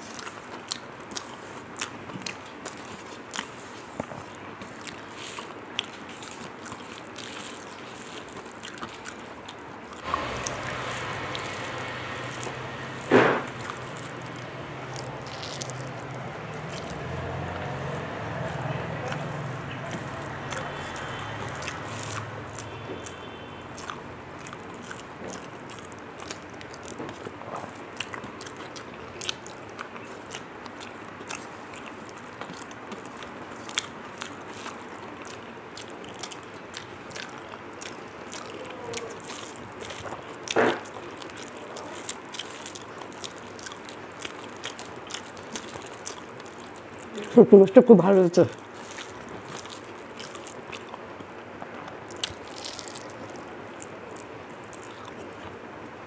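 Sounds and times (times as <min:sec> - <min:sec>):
person chewing food: 0:00.0 - 0:55.7.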